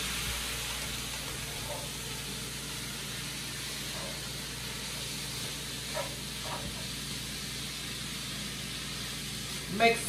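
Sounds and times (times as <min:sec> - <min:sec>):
chicken sizzling in frying pan: 0:00.0 - 0:10.0.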